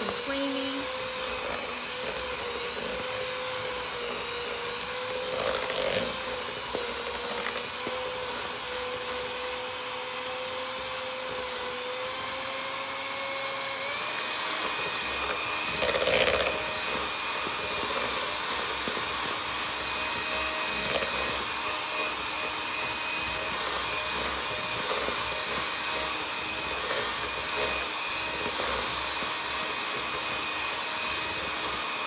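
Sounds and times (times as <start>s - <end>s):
electric hand mixer whining: 0.0s - 32.0s.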